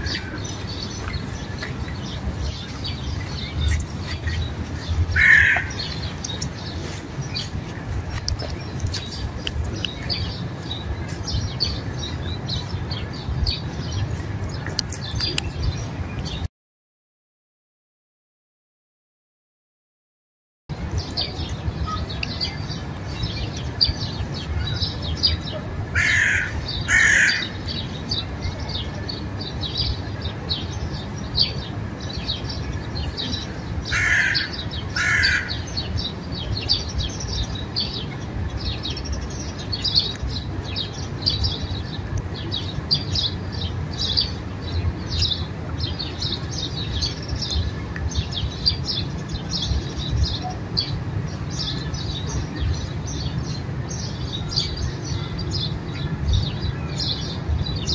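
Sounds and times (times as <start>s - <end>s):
harsh bird calls: 0.0s - 16.5s, 21.0s - 57.9s
small birds chirping: 0.0s - 16.5s, 20.8s - 57.9s.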